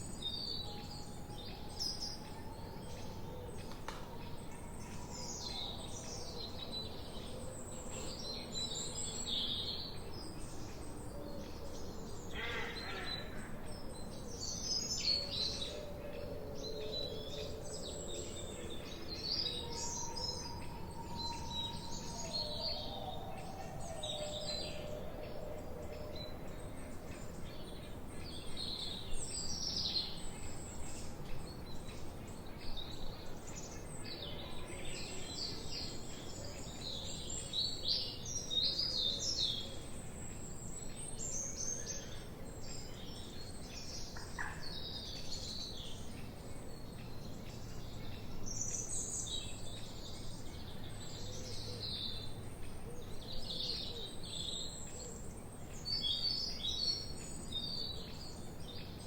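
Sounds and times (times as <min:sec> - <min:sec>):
songbirds chirping and singing: 0:00.0 - 0:59.0
steady background hiss: 0:07.9 - 0:59.0.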